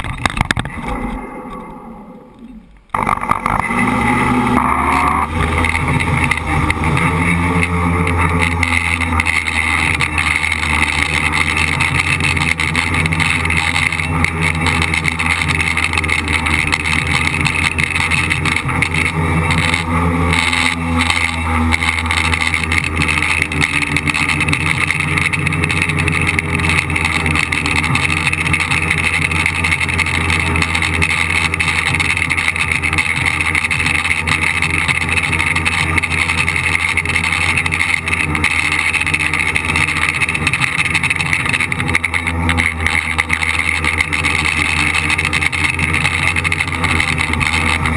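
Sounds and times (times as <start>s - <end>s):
electric motors and propellers buzzing: 0.0s - 47.9s.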